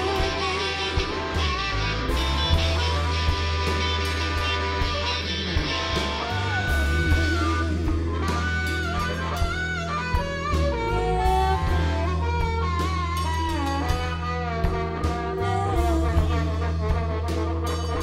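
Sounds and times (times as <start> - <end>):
harmonica bending notes: 0.0 - 18.0
live band playing: 0.0 - 18.0.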